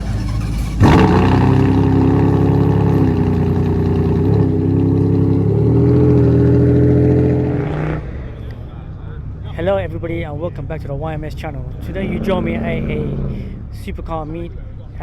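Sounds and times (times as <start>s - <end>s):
car engine at raised revs: 0.0s - 15.0s.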